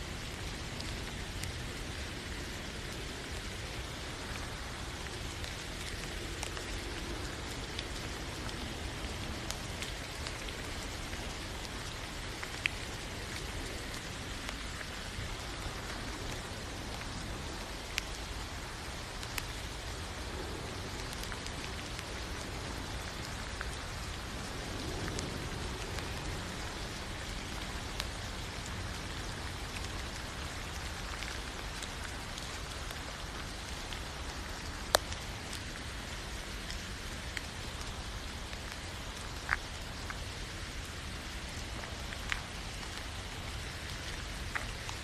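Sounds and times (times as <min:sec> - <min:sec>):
raindrops ticking close by: 0:00.0 - 0:45.0
steady rainfall: 0:00.0 - 0:45.0.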